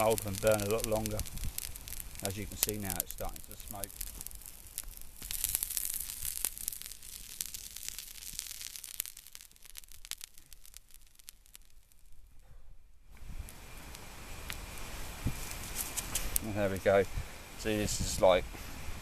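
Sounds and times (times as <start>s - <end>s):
chemical mixture hissing and crackling: 0.0s - 12.4s, 13.2s - 19.0s.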